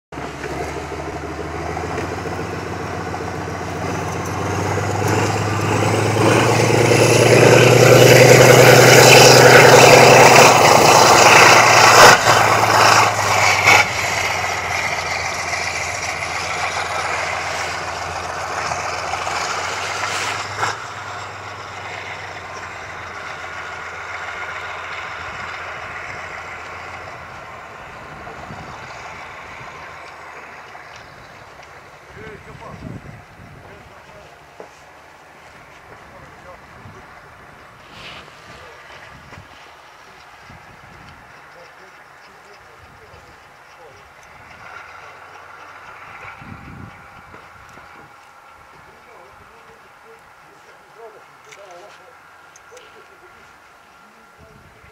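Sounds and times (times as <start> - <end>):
diesel train passing: 0.1 - 54.9.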